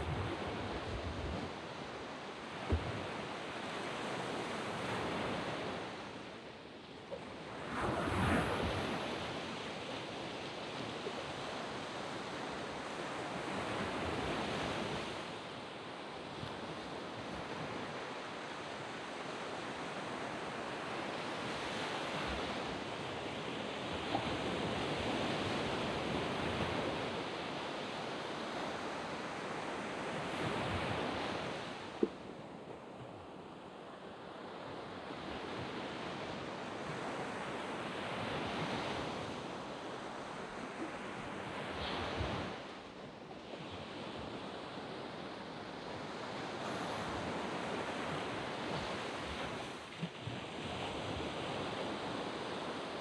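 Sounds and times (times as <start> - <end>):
waves breaking on sand beach: 0.0 - 6.6, 7.2 - 53.0.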